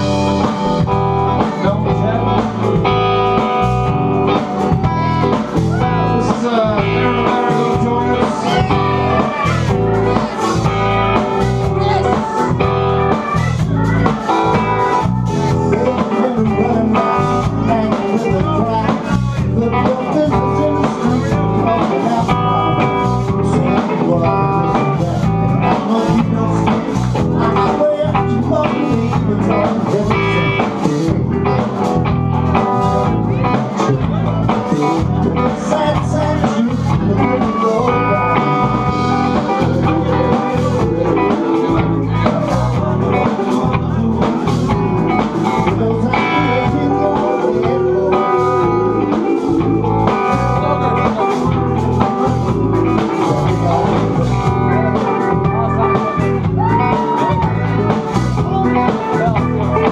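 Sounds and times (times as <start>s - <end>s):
blues band playing: 0.0s - 59.9s.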